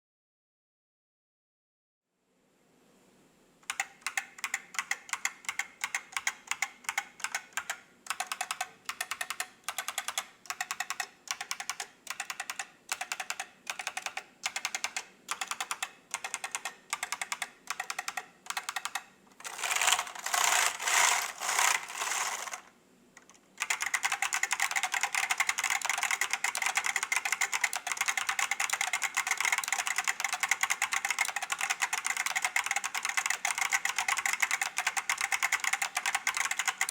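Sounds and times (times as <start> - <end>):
keyboard typing: 3.6 - 36.9.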